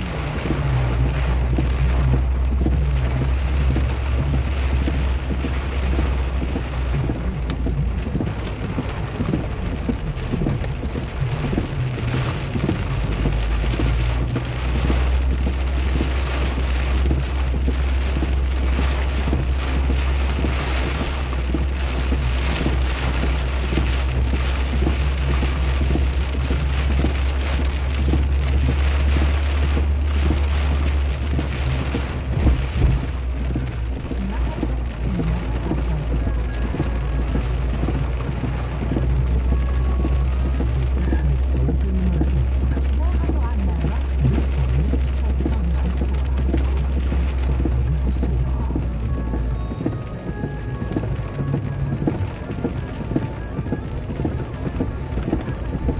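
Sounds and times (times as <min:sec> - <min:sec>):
car driving rumble: 0:00.0 - 0:55.9
rain pattering on a car: 0:00.0 - 0:55.9.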